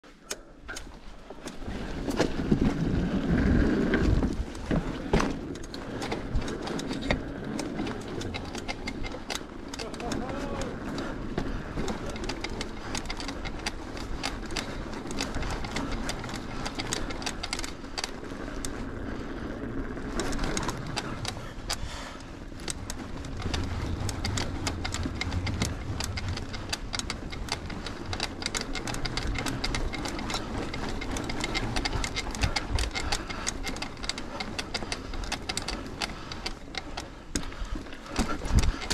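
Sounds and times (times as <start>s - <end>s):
bike rattling: 0.1s - 38.9s
bike tyres clattering on planks: 1.0s - 38.9s.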